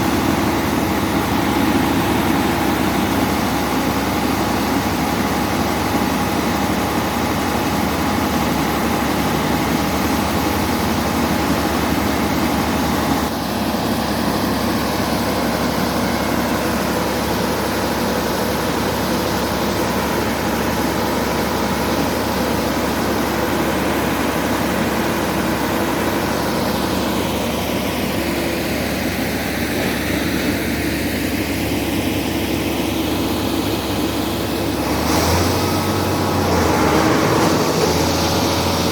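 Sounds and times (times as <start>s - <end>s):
heavy diesel engines droning: 0.0s - 38.9s.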